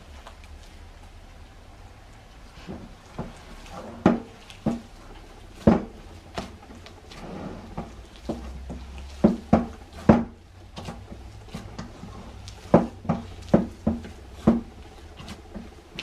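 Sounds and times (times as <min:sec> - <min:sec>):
dough thumping in metal bowl: 0:02.7 - 0:16.0.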